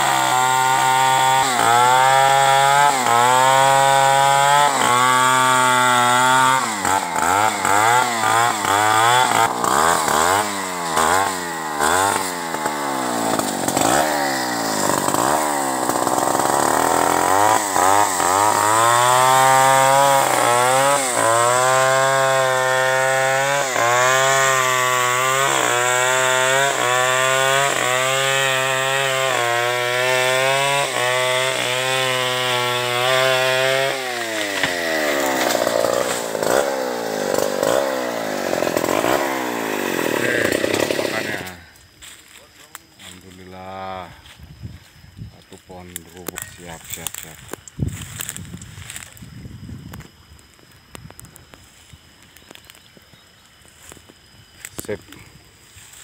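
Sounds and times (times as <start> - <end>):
chainsaw cutting tree trunk: 0.0 - 43.6, 44.2 - 56.0.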